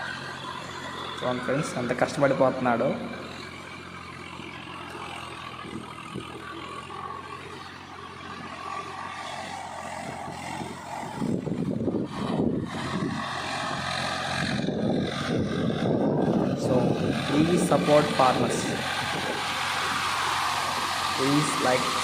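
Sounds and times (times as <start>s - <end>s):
loud rough rumbling: 0.0s - 22.0s
tractor diesel engine running: 0.0s - 22.0s
wheels working through mud: 0.0s - 22.0s.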